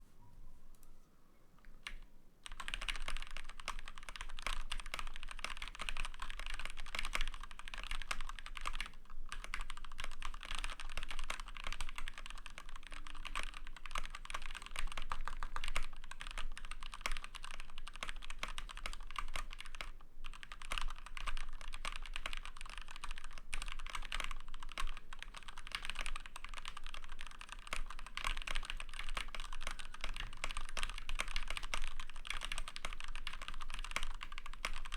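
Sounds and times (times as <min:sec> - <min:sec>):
typing on mechanical keyboard: 0:01.8 - 0:34.9.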